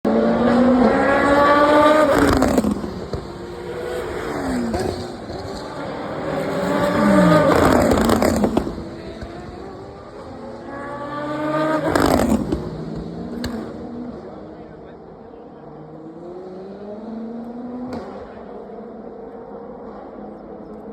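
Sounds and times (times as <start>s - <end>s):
race cars passing at high speed: 0.1s - 20.9s.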